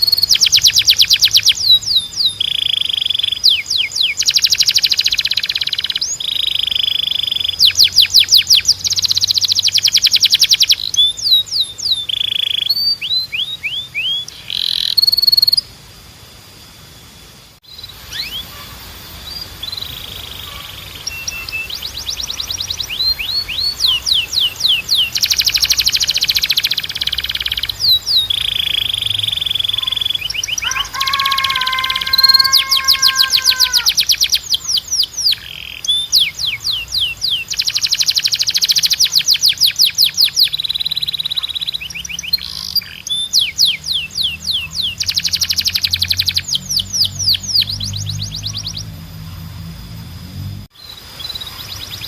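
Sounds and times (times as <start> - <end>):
canary singing: 0.0 - 15.8, 17.6 - 50.0.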